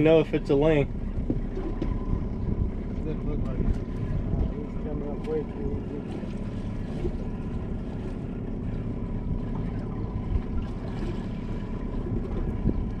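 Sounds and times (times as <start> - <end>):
boat motor idling: 0.0 - 13.0
wind buffeting microphone: 0.0 - 13.0.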